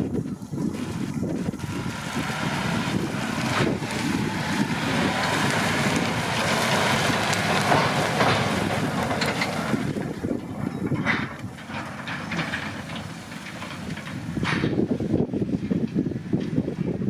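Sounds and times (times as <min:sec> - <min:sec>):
tractor engine and machinery: 0:00.0 - 0:17.0.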